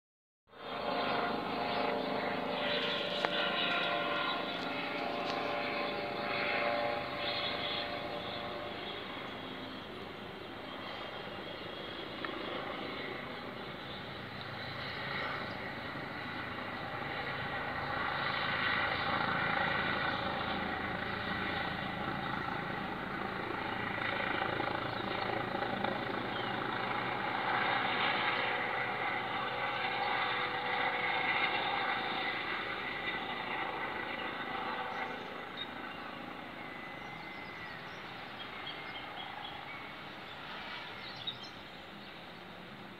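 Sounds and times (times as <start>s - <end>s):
helicopter rotor drone: 0.5s - 42.9s.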